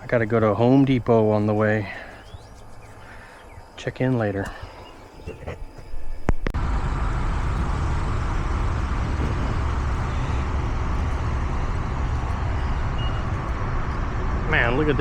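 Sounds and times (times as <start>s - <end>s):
vehicle road noise rumble: 0.0s - 15.0s.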